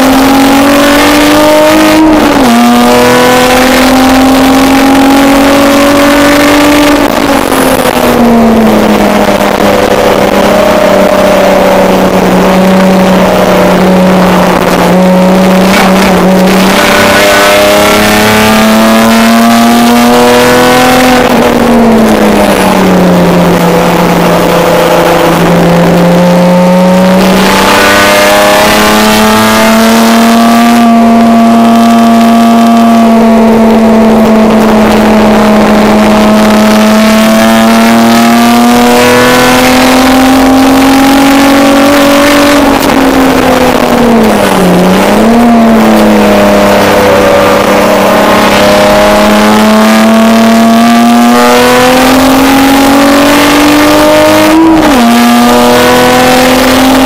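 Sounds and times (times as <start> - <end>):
race car engine at high revs: 0.0 - 57.0
wind and road noise: 0.0 - 57.0.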